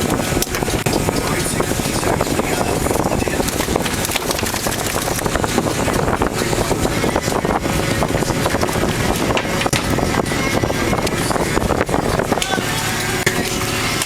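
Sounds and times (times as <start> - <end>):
knocks and clatter: 0.0 - 12.6
boat engine running: 0.0 - 14.0
deck machinery running: 0.0 - 14.0.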